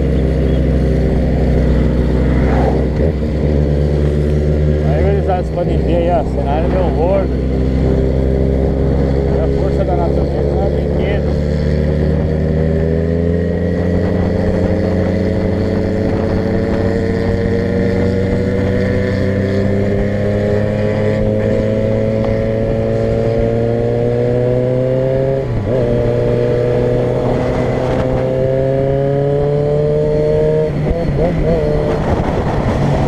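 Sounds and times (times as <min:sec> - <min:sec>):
vehicle engine accelerating: 0:00.0 - 0:33.0.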